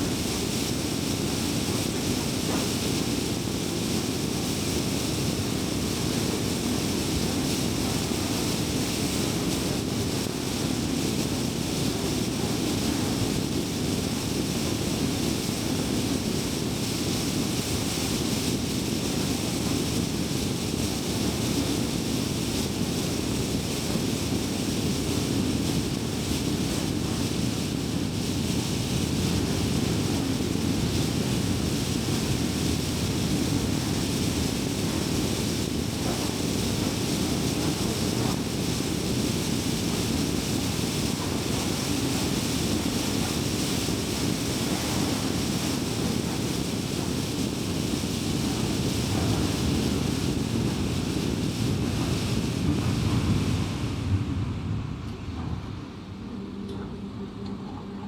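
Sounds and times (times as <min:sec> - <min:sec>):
wind rush: 0:00.0 - 0:57.3.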